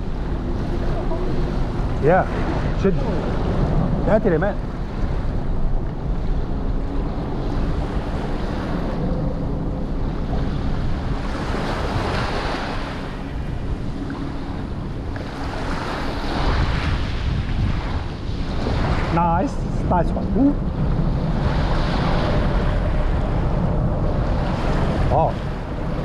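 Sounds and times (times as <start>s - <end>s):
small waves breaking on shore: 0.0s - 26.0s
wind buffeting microphone: 0.0s - 26.0s.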